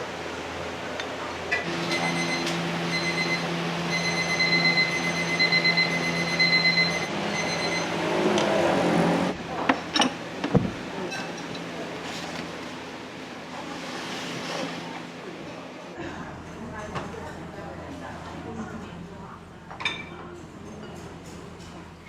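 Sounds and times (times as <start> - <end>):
kitchen equipment roaring: 0.0 - 22.0.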